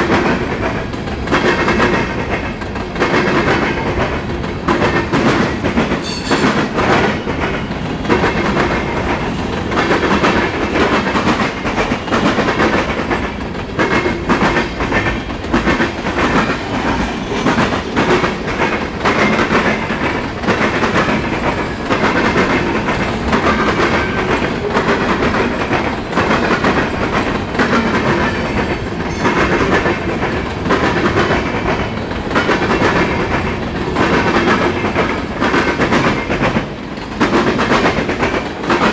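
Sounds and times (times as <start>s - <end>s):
rumble and hiss of wheels on rail: 0.0s - 38.9s
train wheels clattering over rail joints: 0.0s - 38.9s.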